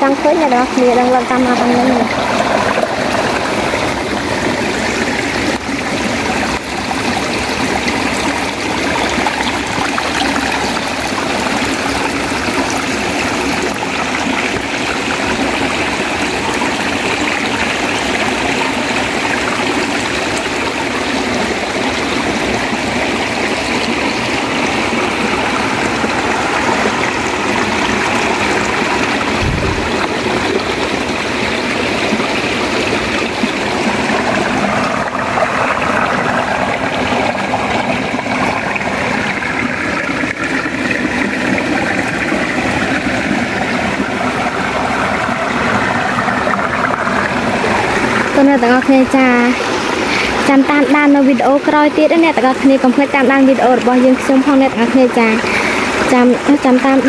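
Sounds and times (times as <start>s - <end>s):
water rushing between rocks: 0.0s - 57.0s.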